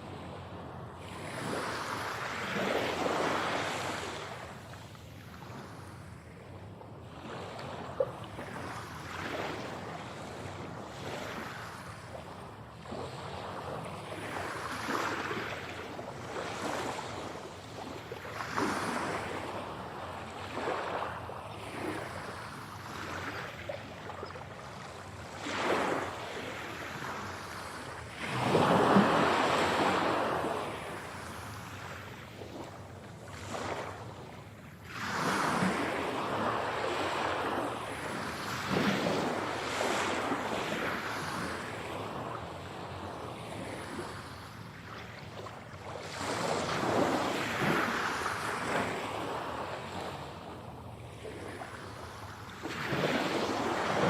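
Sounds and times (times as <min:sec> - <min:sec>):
sea waves breaking: 0:07.1 - 0:54.0.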